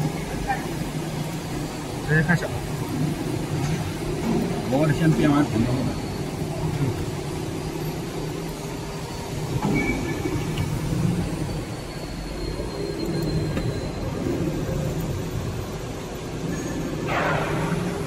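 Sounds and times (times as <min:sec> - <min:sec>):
factory machinery drone: 0:00.0 - 0:18.0.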